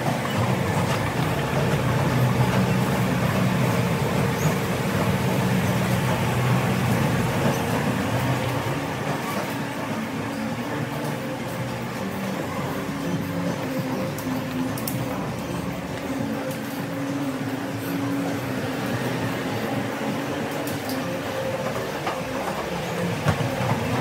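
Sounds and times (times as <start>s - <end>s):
escalator humming: 0.0s - 24.0s.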